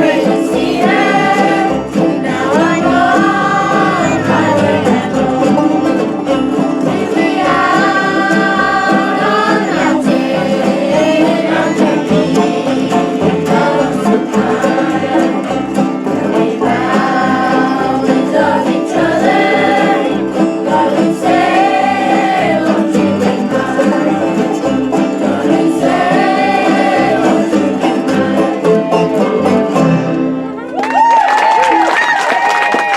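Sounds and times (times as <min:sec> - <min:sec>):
voices singing in harmony: 0:00.0 - 0:30.2
bluegrass band playing: 0:00.0 - 0:31.1.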